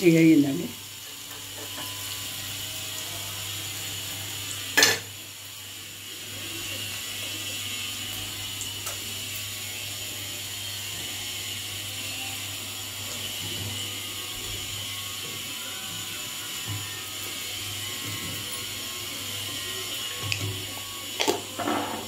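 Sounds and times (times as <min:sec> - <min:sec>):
fish frying in hot oil: 0:00.0 - 0:22.0.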